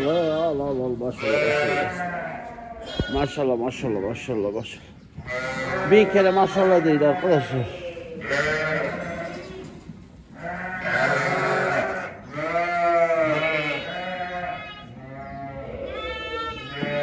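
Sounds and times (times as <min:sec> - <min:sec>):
sheep bleating: 0:00.0 - 0:04.3, 0:05.2 - 0:09.7, 0:10.3 - 0:17.0.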